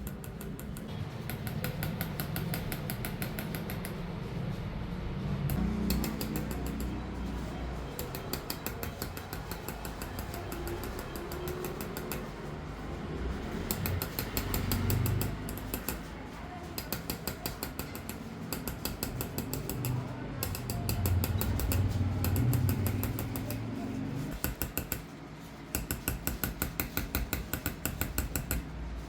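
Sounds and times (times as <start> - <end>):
hammer tapping chisel on metal: 0.0 - 4.0, 5.5 - 12.4, 13.6 - 25.1, 25.7 - 28.7.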